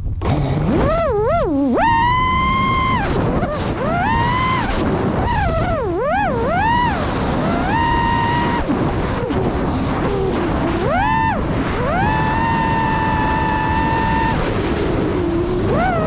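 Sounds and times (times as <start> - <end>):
drone motors whining: 0.0 - 16.0
rush of air noise: 0.0 - 16.0.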